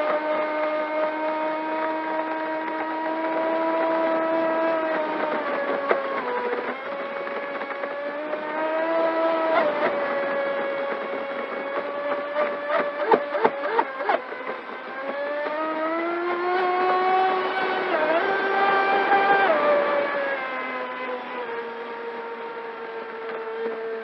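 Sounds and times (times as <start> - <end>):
rc boat motor whining: 3.2 - 24.0.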